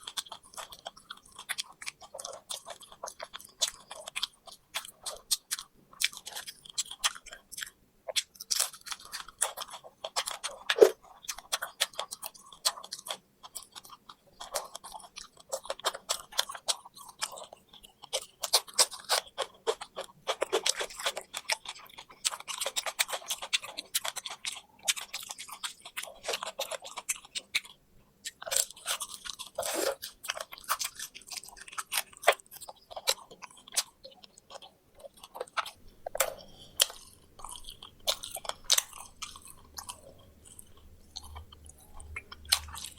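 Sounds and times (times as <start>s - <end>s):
chewing crunchy fried food: 0.0s - 42.9s.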